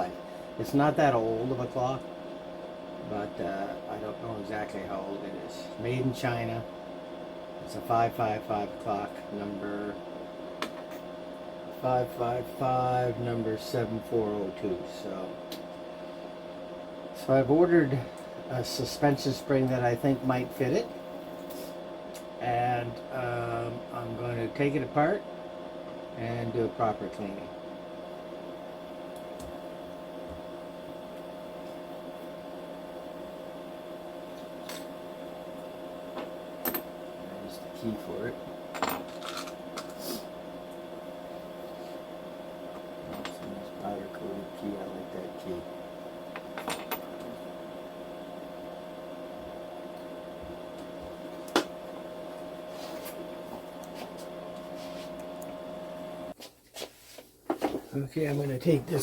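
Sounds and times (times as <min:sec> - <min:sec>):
electrical hum with held tone: 0:00.0 - 0:59.0.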